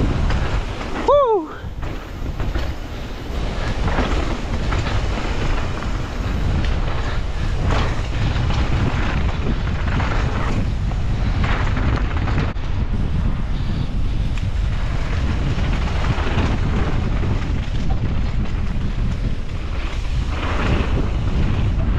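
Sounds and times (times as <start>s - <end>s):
bike tyres on loose dirt: 0.0s - 21.9s
wind buffeting microphone: 0.0s - 21.9s.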